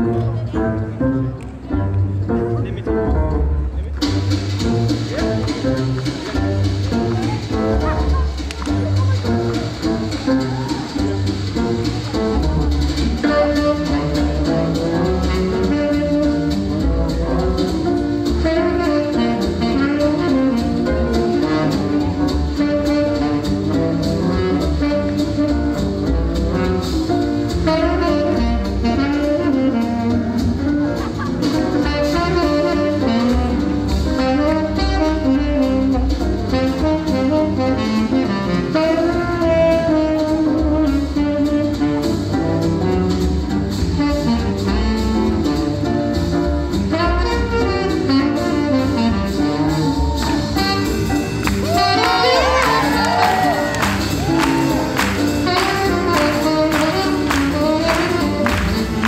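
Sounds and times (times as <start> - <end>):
swing jazz music: 0.0 - 59.0.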